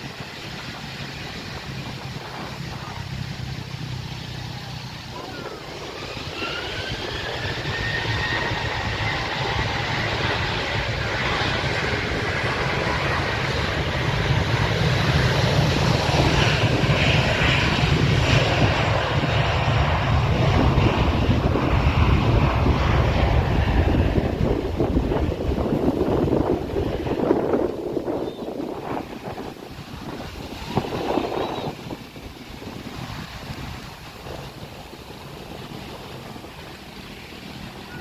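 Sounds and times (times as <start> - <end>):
airliner engines spooling up: 0.0 - 38.0
wind buffeting microphone: 0.0 - 38.0.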